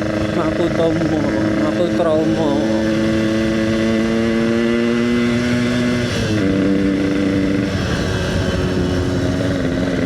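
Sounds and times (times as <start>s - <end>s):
motorcycle engine revving: 0.0s - 10.0s
road noise: 0.0s - 10.0s
wind noise: 0.0s - 10.0s.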